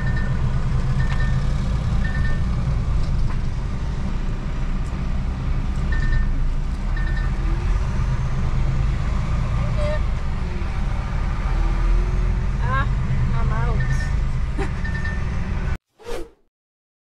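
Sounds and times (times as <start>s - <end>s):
truck diesel engine rumbling: 0.0s - 15.8s.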